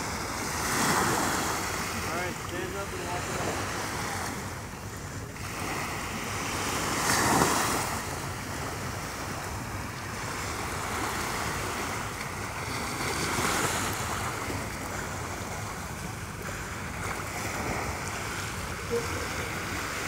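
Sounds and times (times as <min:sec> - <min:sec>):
small waves breaking on shore: 0:00.0 - 0:20.0.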